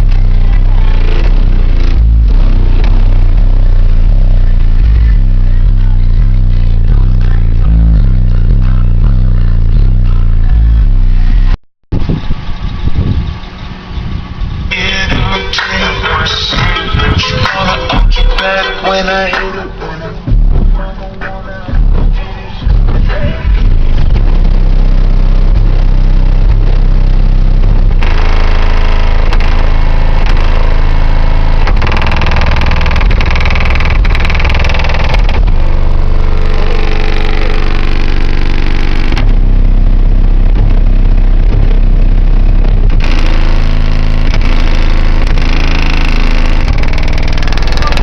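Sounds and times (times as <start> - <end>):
loud bass-heavy music: 0.0 - 48.0.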